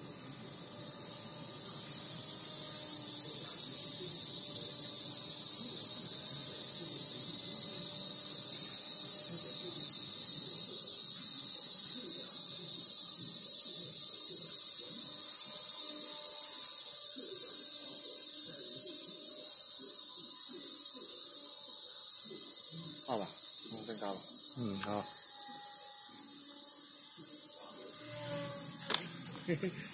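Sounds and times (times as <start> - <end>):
small electric motor and propeller: 0.0 - 29.9.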